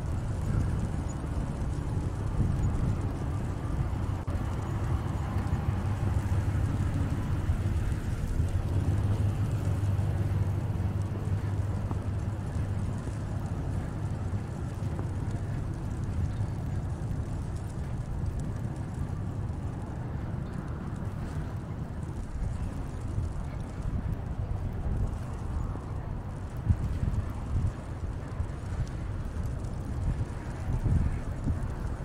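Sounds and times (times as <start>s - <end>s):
city street rumble: 0.0s - 32.0s.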